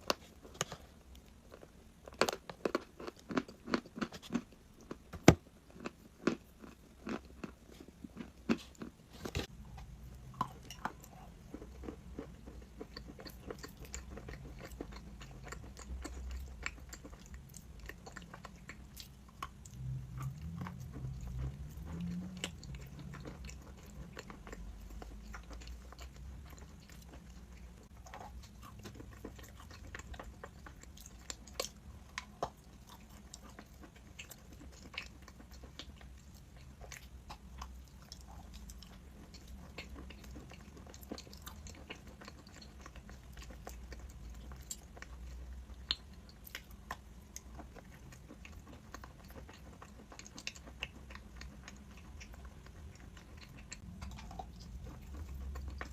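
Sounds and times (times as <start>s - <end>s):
person chewing crunchy chalk: 0.0s - 55.9s.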